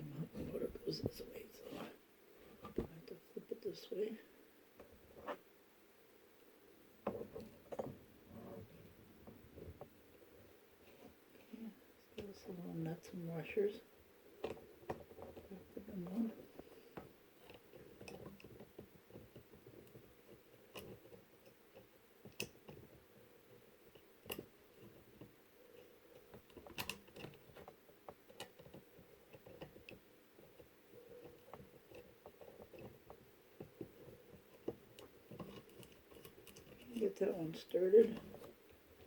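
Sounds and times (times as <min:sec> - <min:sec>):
faint room hum: 0:00.0 - 0:39.0.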